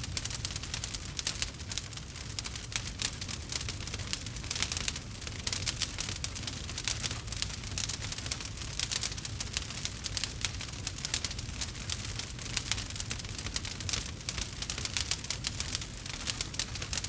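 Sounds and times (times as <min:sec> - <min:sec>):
campfire crackling and popping: 0:00.0 - 0:17.0
low rumble of burning fire: 0:00.0 - 0:17.0.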